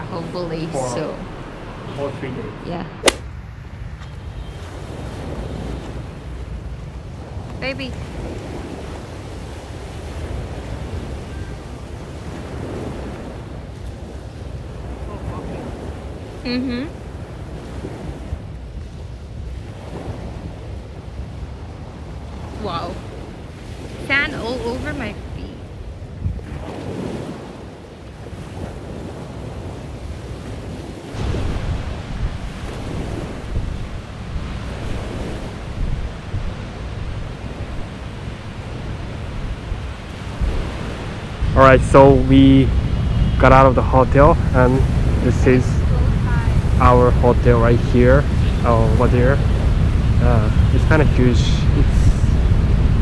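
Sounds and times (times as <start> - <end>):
wind and surf hiss: 0.0 - 53.0
wind buffeting microphone: 0.0 - 53.0.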